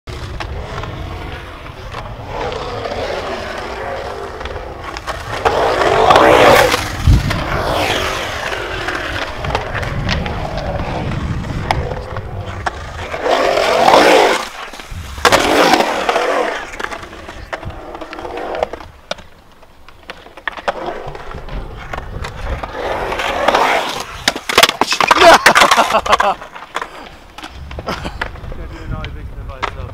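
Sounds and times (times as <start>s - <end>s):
skateboard wheels rolling on concrete: 0.1s - 29.9s.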